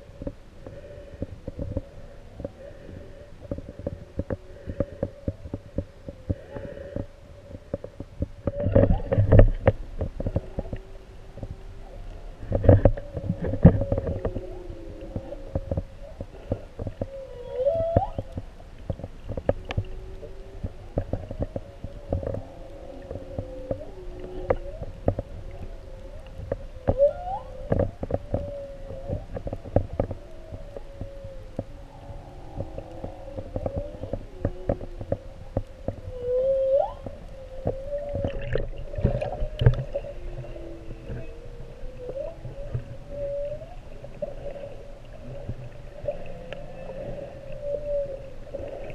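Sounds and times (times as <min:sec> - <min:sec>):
humpback whale song: 0:00.0 - 0:48.9.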